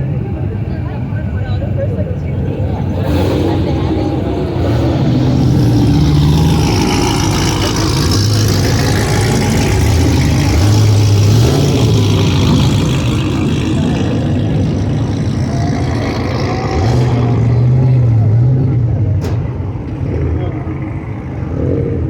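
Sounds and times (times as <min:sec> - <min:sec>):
car engines driving past: 0:00.0 - 0:22.0
road and exhaust noise: 0:00.0 - 0:22.0.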